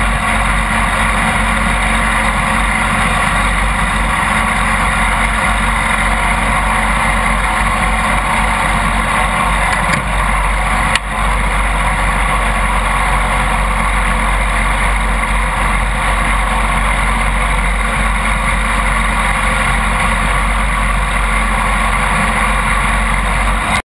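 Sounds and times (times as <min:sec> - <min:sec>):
lawn mower engine running: 0:00.0 - 0:23.8.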